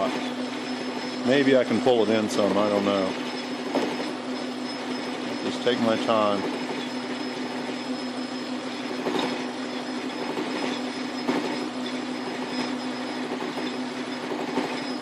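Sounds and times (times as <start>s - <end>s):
lathe motor hum: 0.0s - 15.0s
rough metal cutting noise: 0.0s - 15.0s.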